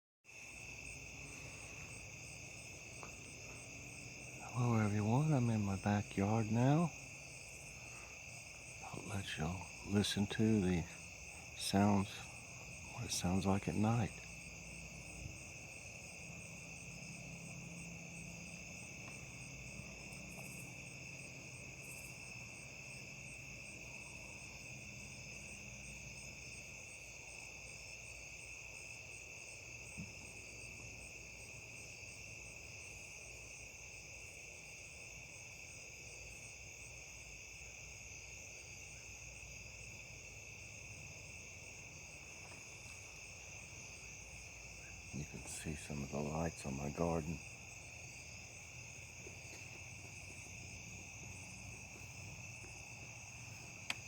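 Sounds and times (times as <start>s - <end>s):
crickets trilling: 0.3s - 54.0s.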